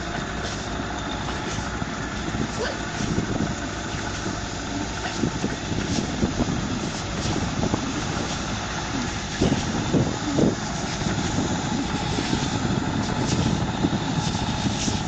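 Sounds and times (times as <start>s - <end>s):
mud and water splashing: 0.0s - 15.0s
tractor engine under load: 0.0s - 15.0s.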